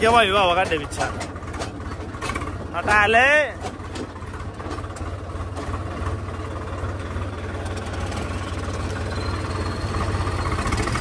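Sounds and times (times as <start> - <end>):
second tractor engine running: 0.0 - 11.0
tractor diesel engine rumbling: 0.0 - 11.0.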